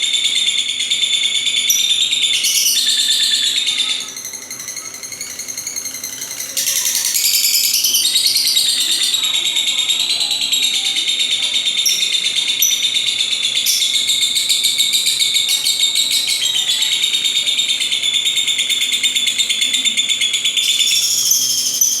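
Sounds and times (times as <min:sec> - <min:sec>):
lovebird chattering: 0:01.1 - 0:22.0.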